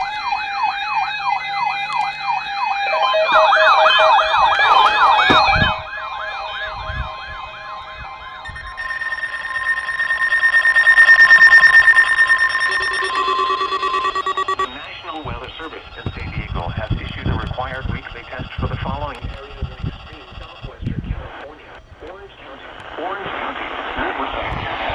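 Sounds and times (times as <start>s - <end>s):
electronic sirens yelping: 0.0s - 20.8s
pulsing electronic alarm tone: 0.0s - 20.8s.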